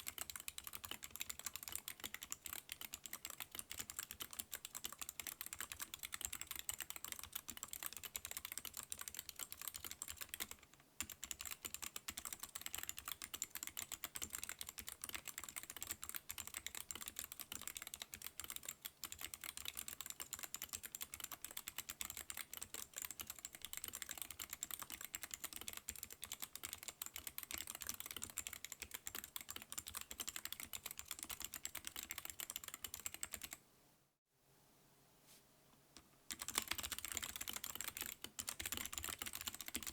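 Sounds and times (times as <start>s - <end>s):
mechanical keyboard typing: 0.0s - 33.6s, 36.3s - 39.9s.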